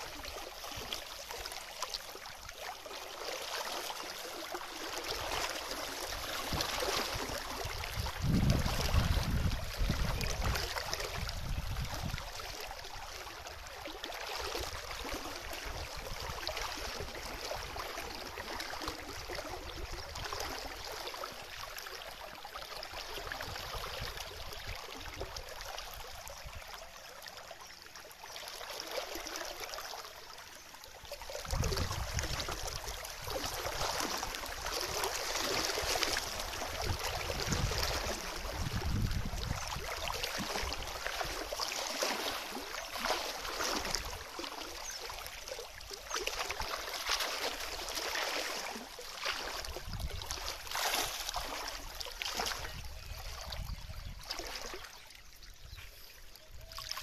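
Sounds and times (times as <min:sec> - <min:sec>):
water running and lapping: 0:00.0 - 0:57.0.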